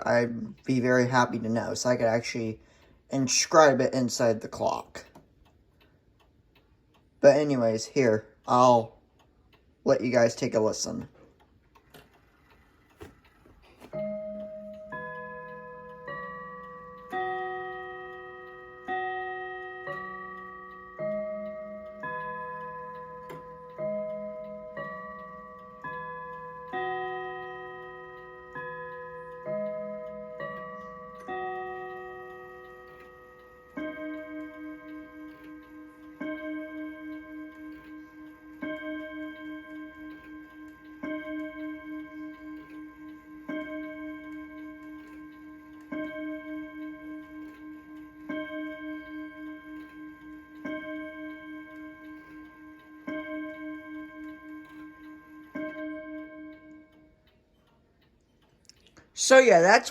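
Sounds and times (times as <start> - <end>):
mantel clock chime tune: 0.0 - 5.1, 12.2 - 59.9
clock striking the hour: 0.0 - 59.9.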